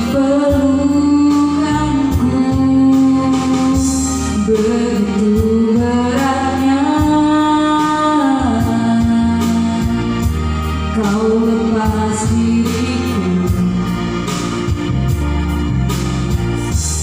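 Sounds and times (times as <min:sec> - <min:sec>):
bass and keyboard backing: 0:00.0 - 0:17.0.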